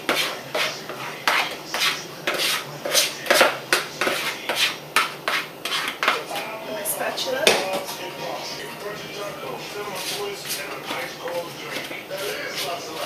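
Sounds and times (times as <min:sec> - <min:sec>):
spatula scraping plastic bowl: 0:00.0 - 0:06.6, 0:08.8 - 0:13.0.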